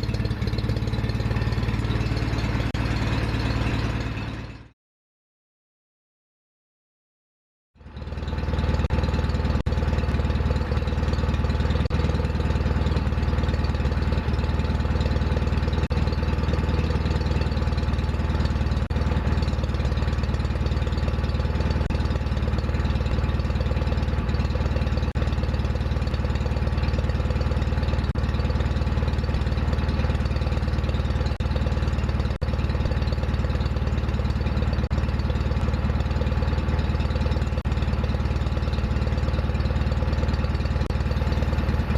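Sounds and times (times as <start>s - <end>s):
lawn tractor engine running: 0.0s - 4.7s, 7.8s - 41.9s.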